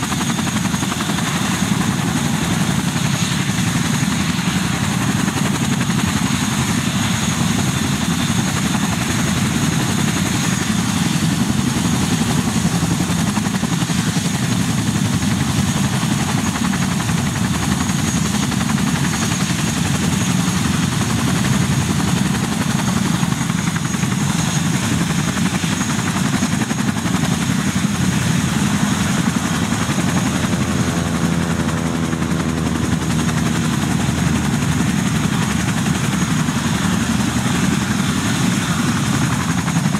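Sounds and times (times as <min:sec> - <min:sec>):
helicopter engines and rotors running: 0:00.0 - 0:39.9.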